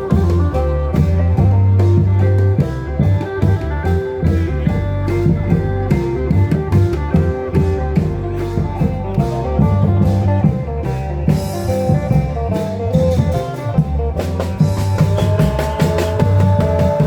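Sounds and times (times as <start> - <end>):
drums beating steady rhythm: 0.0 - 17.0.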